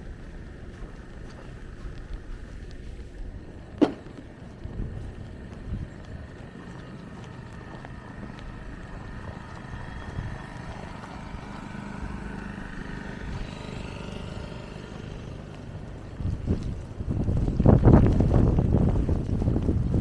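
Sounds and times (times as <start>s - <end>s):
faint steady tones: 0.0s - 19.4s
vehicle engine rumbling: 0.0s - 20.0s.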